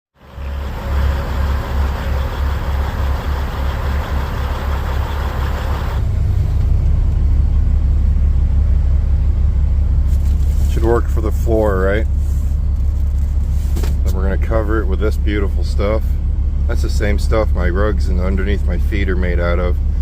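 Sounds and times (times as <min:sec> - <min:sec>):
diesel truck engine rumbling: 0:00.2 - 0:20.0.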